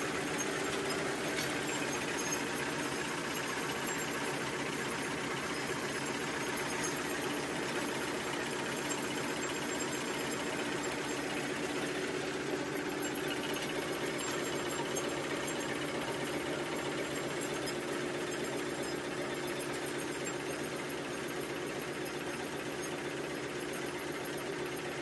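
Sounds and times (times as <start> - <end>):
steady machine hum: 0.0 - 20.5
machine mechanical clatter: 0.0 - 25.0.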